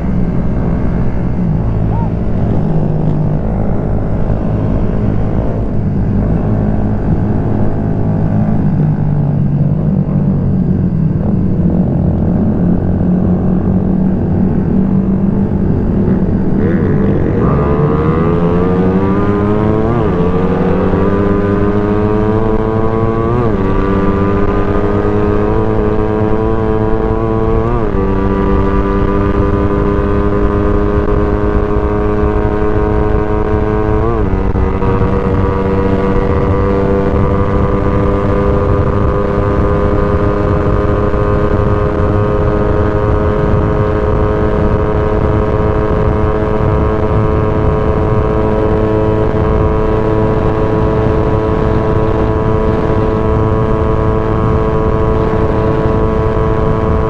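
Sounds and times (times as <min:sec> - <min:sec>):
motorcycle engine accelerating: 0:00.0 - 0:57.0
wind and road rumble: 0:00.0 - 0:57.0.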